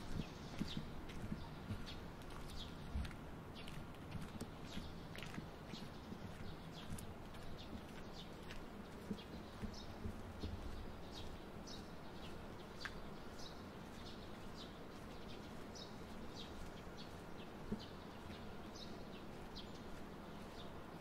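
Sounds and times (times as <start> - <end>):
faint low city hum: 0.0 - 21.0
small bird chirping: 0.0 - 21.0.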